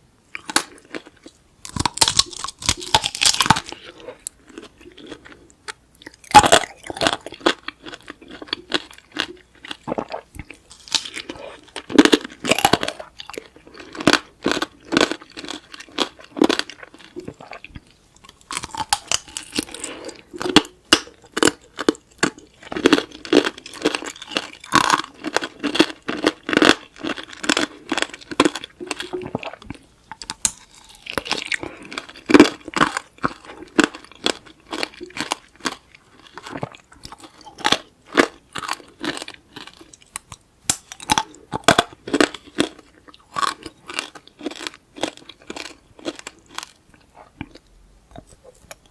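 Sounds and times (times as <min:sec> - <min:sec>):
crunching and chewing candy: 0:00.3 - 0:48.9.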